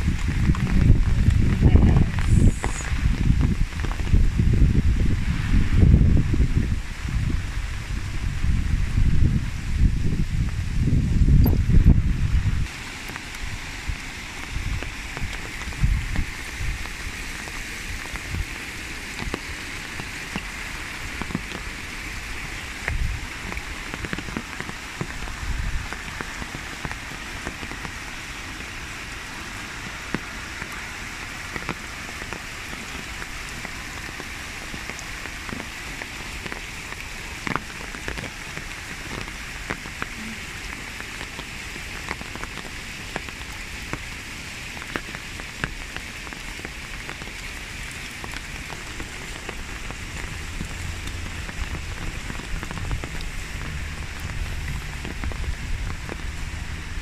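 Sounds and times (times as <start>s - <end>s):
rain on stone and shrubs: 0.0s - 57.0s.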